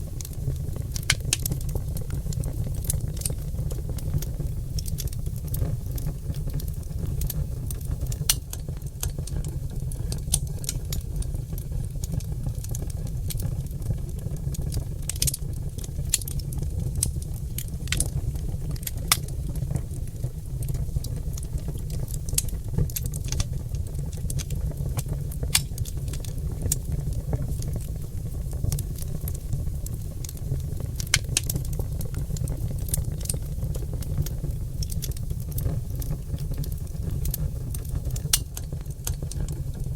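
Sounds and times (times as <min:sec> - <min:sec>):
log fire crackling and popping: 0:00.0 - 0:39.9.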